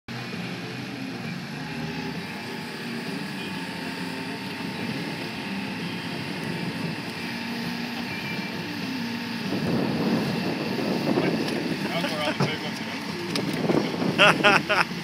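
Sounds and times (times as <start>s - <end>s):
outboard motor running: 0.1s - 15.0s
wind: 0.1s - 15.0s.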